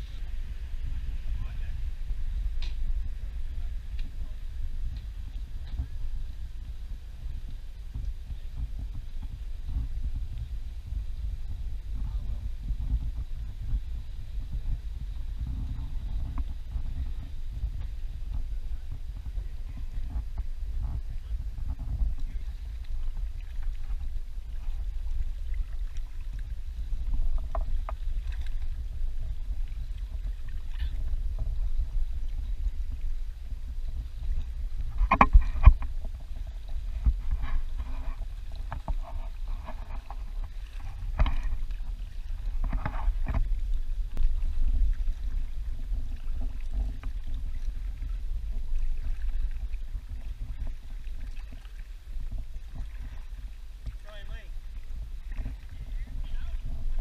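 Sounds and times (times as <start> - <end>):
muffled low rumble: 0.0 - 57.0.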